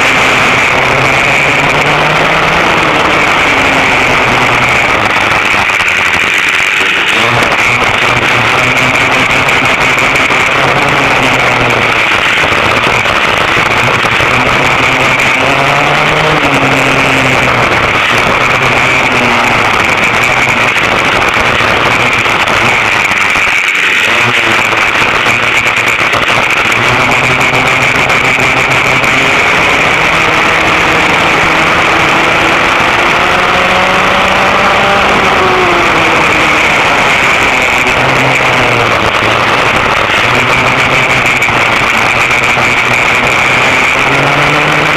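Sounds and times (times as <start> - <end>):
racing kart engines screaming: 0.0 - 44.9.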